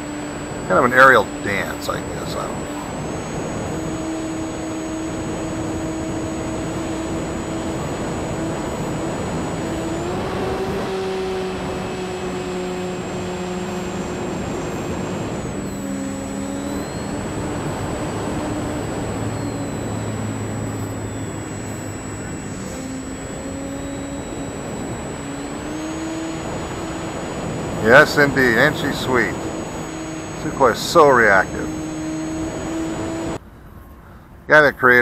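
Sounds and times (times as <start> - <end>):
model plane motor whine: 0.0 - 33.4.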